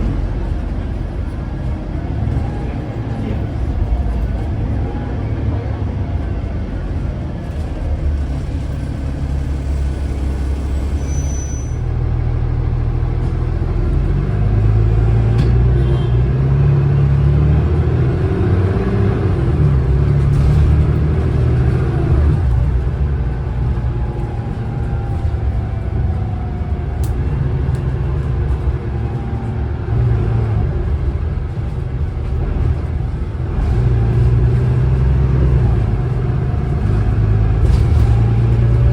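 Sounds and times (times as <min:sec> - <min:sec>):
bus diesel engine drone: 0:00.0 - 0:38.9.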